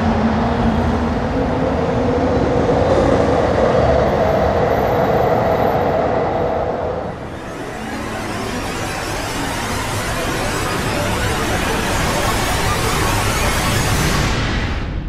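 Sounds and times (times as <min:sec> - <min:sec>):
loud rumbling drone with tones: 0:00.0 - 0:15.0.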